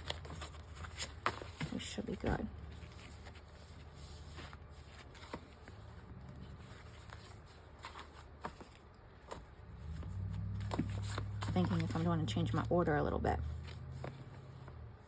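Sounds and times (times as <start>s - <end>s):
low steady hum: 0.0s - 15.0s
paper pages rustling: 0.0s - 15.0s.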